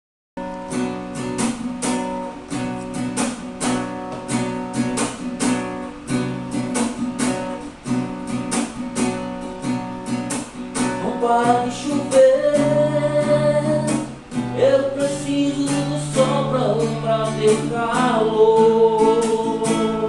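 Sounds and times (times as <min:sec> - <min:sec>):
acoustic guitar strumming chords: 0:00.4 - 0:20.0.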